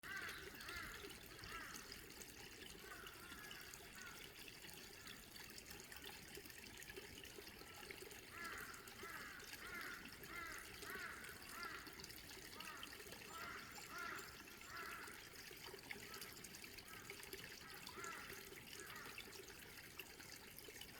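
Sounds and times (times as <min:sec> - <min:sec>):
stream trickling and gurgling: 0:00.0 - 0:20.9.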